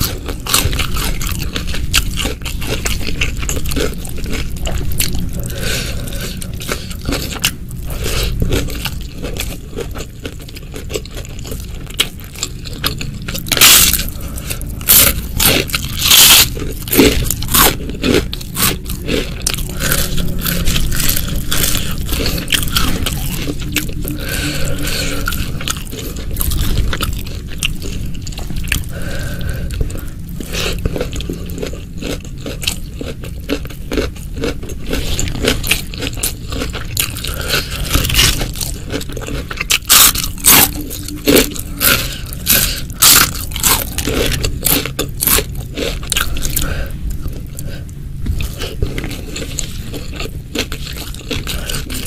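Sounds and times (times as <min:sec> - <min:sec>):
crisp crunching bites: 0:00.0 - 0:29.4, 0:30.4 - 0:47.5
person chewing: 0:00.0 - 0:52.0.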